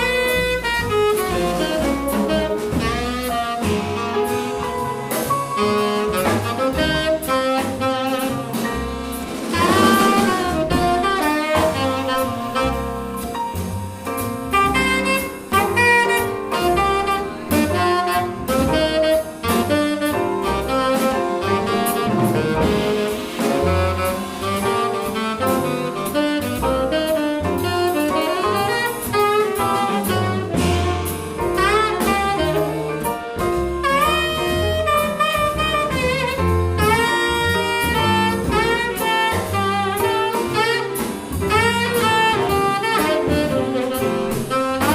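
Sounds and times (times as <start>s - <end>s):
double bass: 0.0s - 44.9s
drum kit and cymbals: 0.0s - 44.9s
horn melody: 0.0s - 44.9s
piano: 0.0s - 44.9s.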